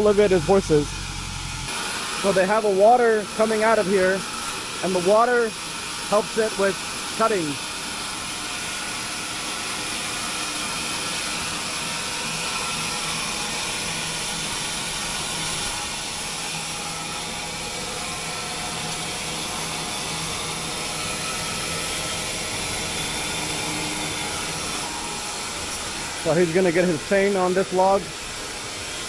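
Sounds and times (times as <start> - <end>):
sawmill machinery hiss and hum: 0.0 - 29.0.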